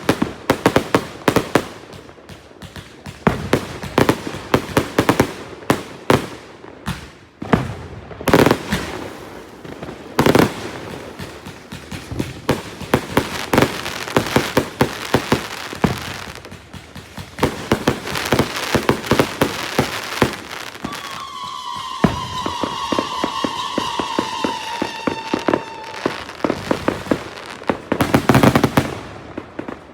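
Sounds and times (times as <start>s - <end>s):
fireworks bangs and crackling: 0.0s - 29.9s
heavy fireworks booms: 0.0s - 29.9s.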